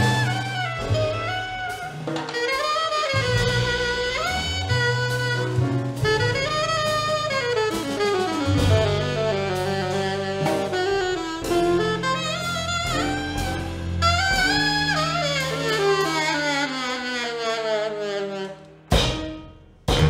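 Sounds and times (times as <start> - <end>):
drums and cymbals: 0.0 - 20.0
horn section playing jazz: 0.0 - 20.0.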